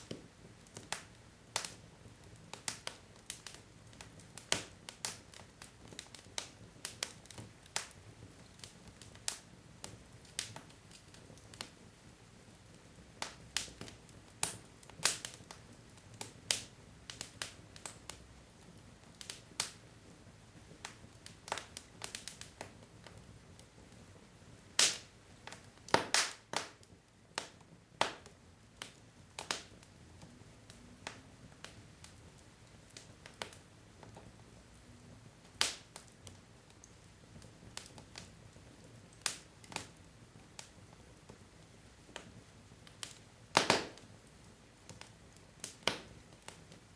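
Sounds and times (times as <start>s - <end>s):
logs crackling in fireplace: 0.0s - 46.9s
low rumble of fire: 0.0s - 46.9s.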